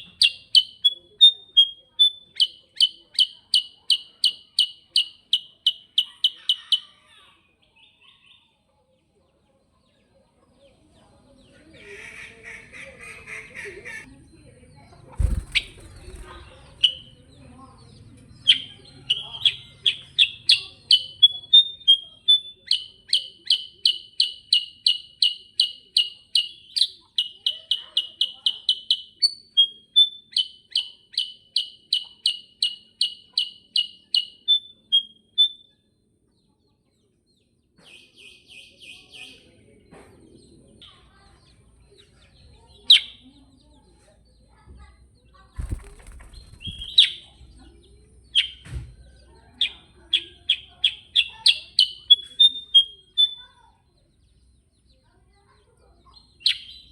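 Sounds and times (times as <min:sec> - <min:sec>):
songbird singing: 0:00.0 - 0:08.7, 0:14.0 - 0:36.5, 0:37.2 - 0:56.9.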